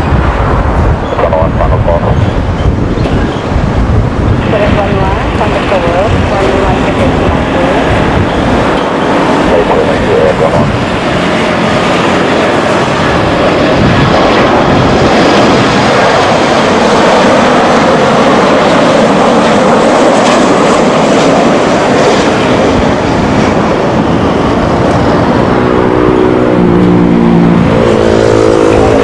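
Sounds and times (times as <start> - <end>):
jet airliner engine noise: 0.0 - 29.0.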